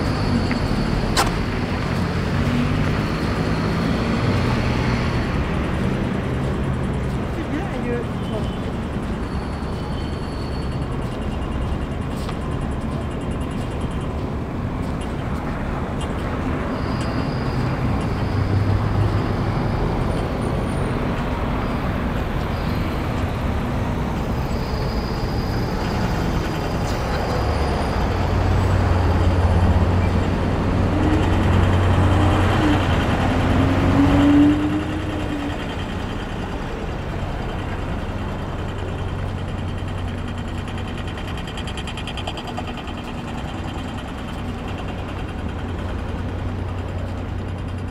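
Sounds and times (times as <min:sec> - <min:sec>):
city street traffic: 0:00.0 - 0:47.9
heavy vehicle engine hum: 0:00.0 - 0:47.9.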